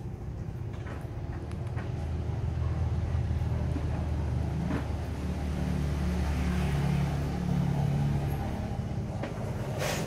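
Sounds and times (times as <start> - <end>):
engine rumble: 0.0 - 10.0.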